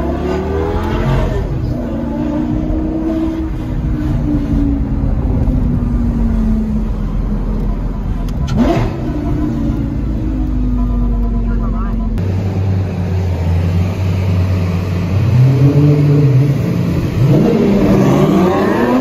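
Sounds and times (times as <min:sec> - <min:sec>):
engine revving: 0:00.0 - 0:07.3, 0:08.2 - 0:11.6, 0:13.5 - 0:19.0
car engine from inside cabin: 0:00.0 - 0:19.0.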